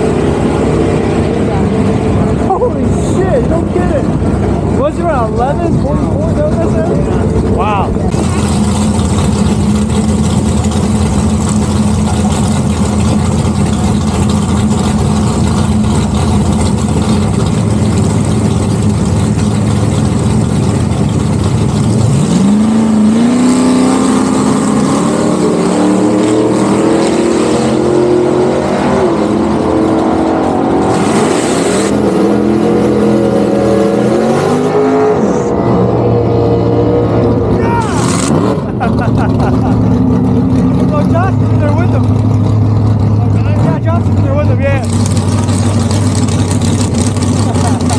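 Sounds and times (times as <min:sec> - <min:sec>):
car engine accelerating through gears: 0:00.0 - 0:47.9.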